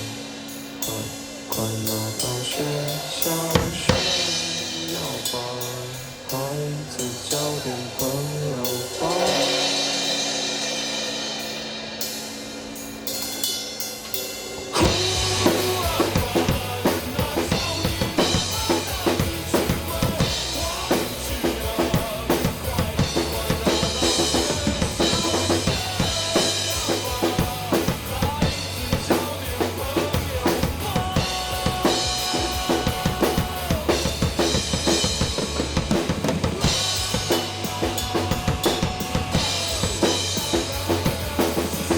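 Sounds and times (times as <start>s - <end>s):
drum kit beat: 0.0s - 41.9s
rock band playing: 0.0s - 41.9s.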